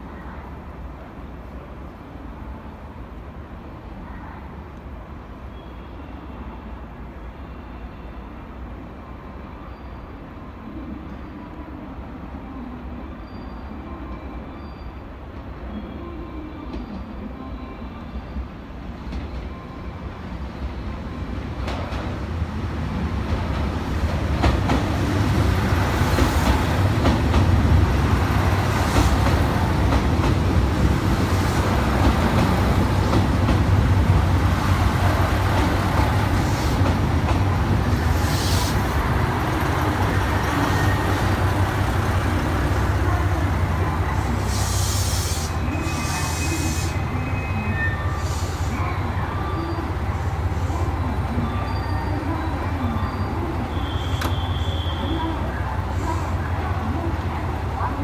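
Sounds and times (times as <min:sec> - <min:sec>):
train rumbling through station: 0:00.0 - 0:58.0.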